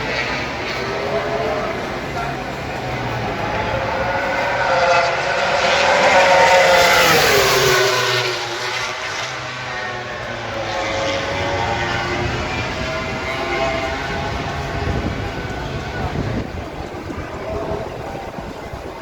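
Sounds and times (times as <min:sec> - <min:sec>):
motorcycle engine passing: 0:00.0 - 0:18.9
distant motorcycle engine: 0:00.0 - 0:19.0.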